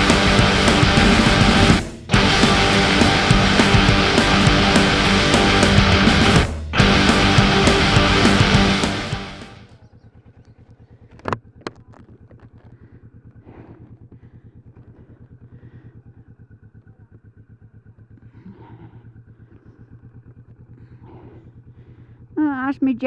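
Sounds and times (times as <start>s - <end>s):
motorcycle engine idling: 0.0s - 22.4s.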